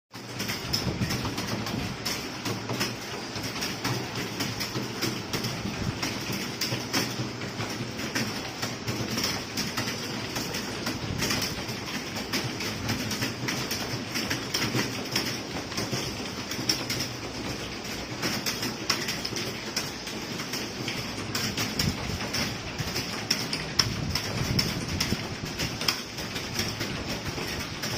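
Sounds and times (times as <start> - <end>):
keyboards typing clatter: 0.1 - 27.9.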